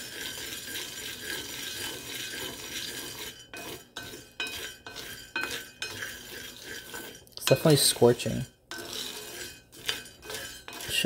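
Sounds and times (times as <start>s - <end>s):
coffee beans rattling in skillet: 0.0s - 11.0s.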